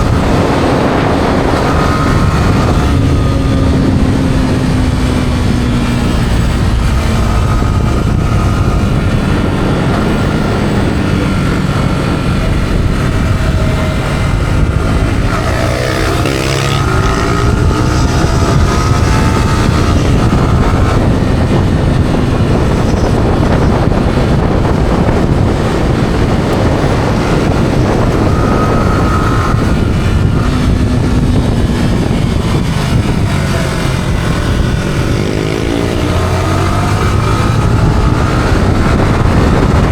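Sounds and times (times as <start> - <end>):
heavy wind rush: 0.0 - 39.9
motorcycle engine running: 0.0 - 39.9.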